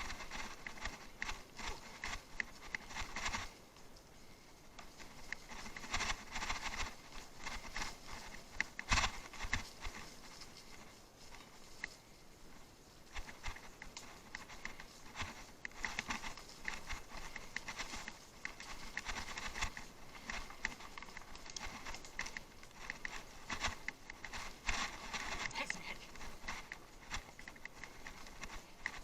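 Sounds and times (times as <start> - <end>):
bicycle rattling over rough ground: 0.0 - 29.0.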